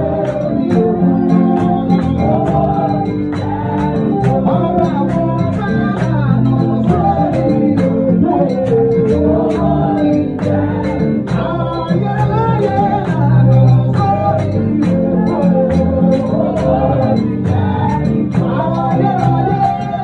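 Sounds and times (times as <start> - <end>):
guitar: 0.0 - 20.0
keyboard: 0.0 - 20.0
man singing into a microphone: 0.0 - 20.0.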